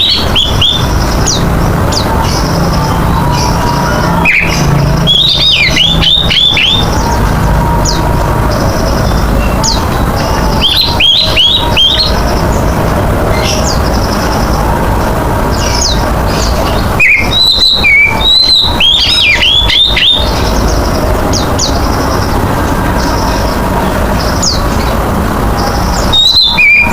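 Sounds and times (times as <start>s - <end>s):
magpie-robin whistling song: 0.0s - 14.8s, 15.5s - 22.3s, 22.9s - 25.0s, 25.6s - 26.9s
steady background noise: 0.0s - 26.9s.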